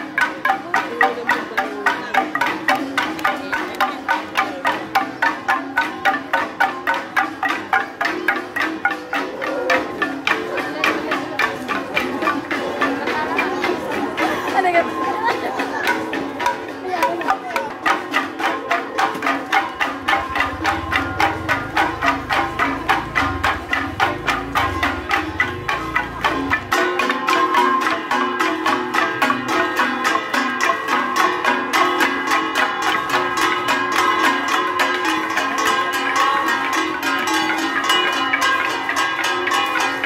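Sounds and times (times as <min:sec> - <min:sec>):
gongs and drums beaten: 0:00.0 - 0:40.0.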